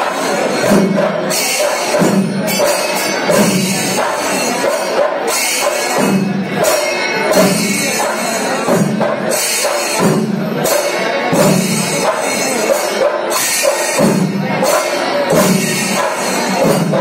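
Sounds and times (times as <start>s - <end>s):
hand cymbals clashing: 0.0s - 17.0s
temple drums: 0.0s - 17.0s.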